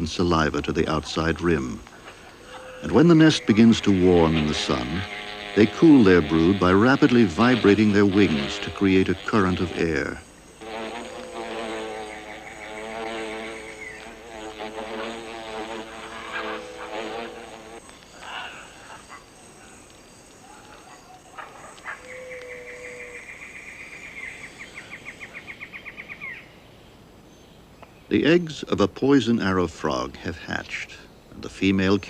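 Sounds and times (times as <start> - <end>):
wasps buzzing: 0.0 - 26.3
rainforest ambience: 0.0 - 32.0.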